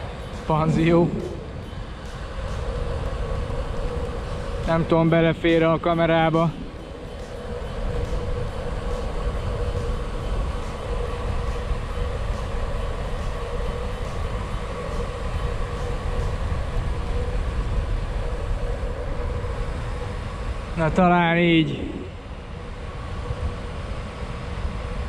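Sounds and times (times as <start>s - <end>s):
faint steady hum: 0.0s - 25.0s
wind rumbling on microphone: 0.0s - 25.0s.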